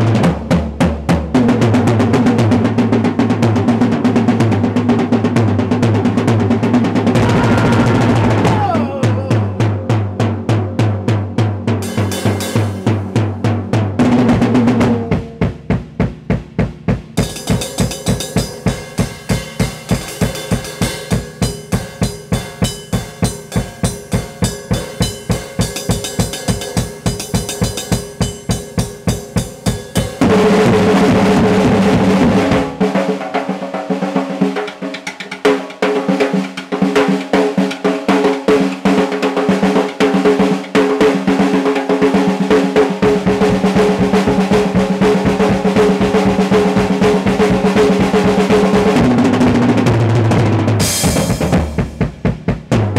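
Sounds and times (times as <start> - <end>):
drum kit playing: 0.0 - 52.9.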